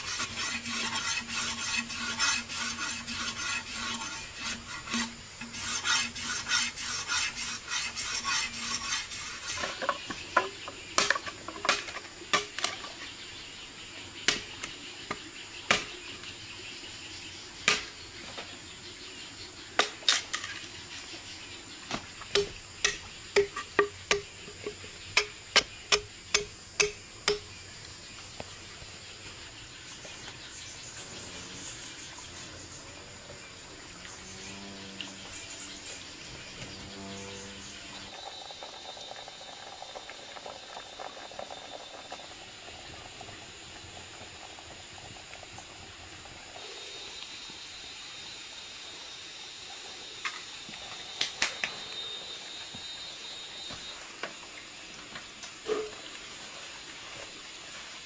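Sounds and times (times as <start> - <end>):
faint insect hum: 0.0 - 58.0.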